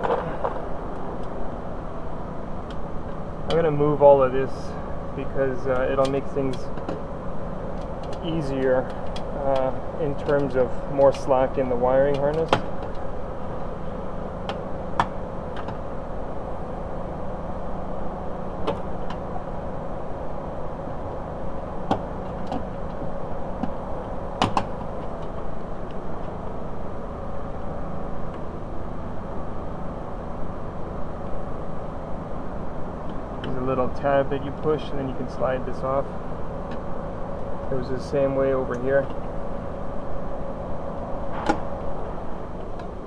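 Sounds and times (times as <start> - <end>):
background hum: 0.0 - 43.0.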